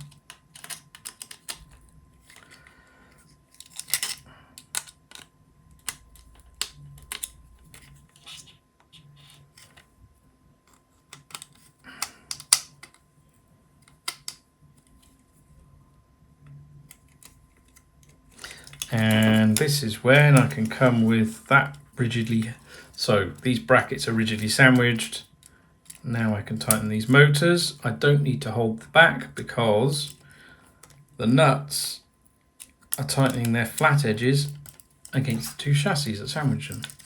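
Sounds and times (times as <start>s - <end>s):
parts being handled: 0.0s - 15.6s, 16.4s - 31.2s, 32.2s - 37.0s.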